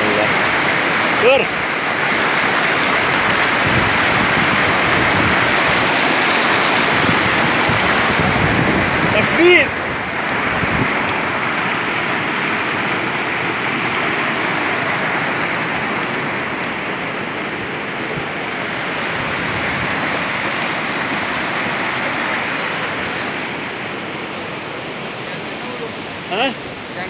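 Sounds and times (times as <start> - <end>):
fast-flowing stream water: 0.0 - 27.0.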